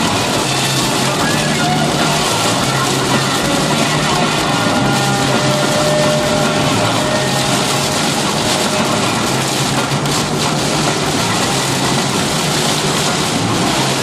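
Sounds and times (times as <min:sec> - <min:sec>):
rain on car: 0:00.0 - 0:14.0
tyres on wet road: 0:00.0 - 0:14.0.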